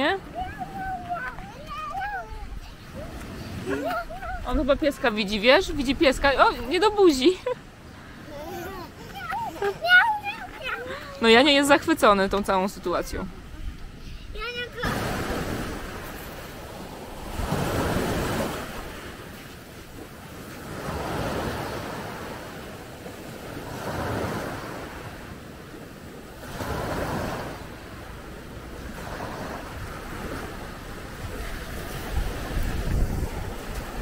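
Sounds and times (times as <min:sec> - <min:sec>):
small waves breaking on a beach: 0:00.0 - 0:34.0.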